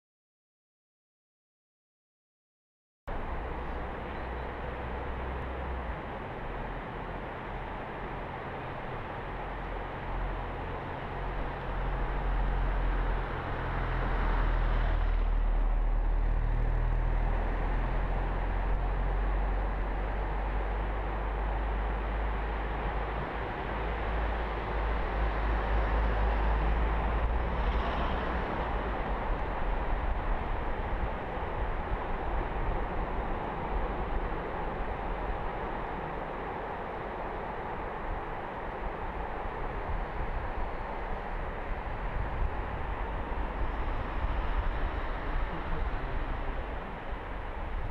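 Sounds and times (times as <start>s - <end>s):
heavy low rumble: 3.1s - 47.9s.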